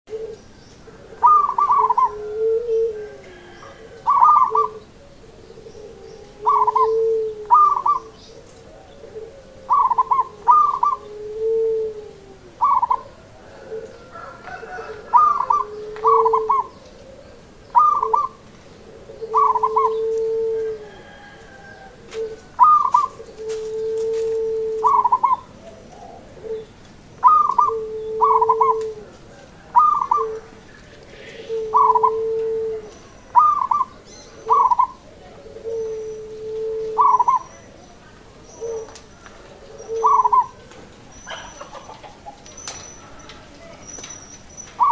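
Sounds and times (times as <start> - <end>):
dove cooing: 0.1 - 44.9.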